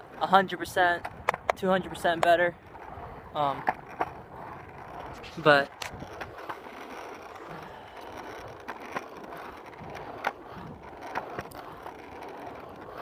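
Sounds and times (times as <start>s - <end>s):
board wheels rolling on concrete: 0.0s - 13.0s.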